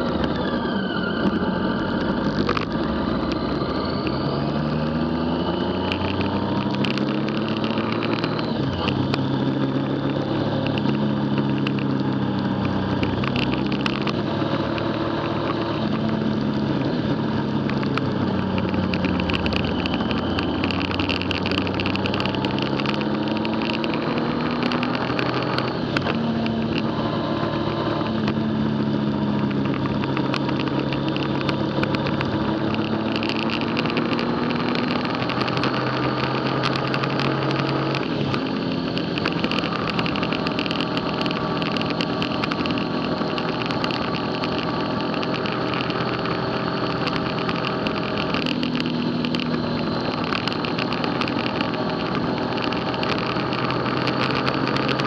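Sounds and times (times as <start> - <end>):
motorcycle engine running: 0.0 - 55.0
steady rushing noise: 0.0 - 55.0.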